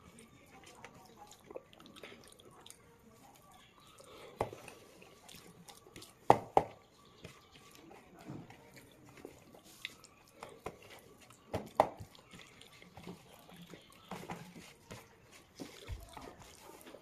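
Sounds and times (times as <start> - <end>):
fingers squishing rice: 0.0 - 17.0
wet chewing: 0.0 - 17.0.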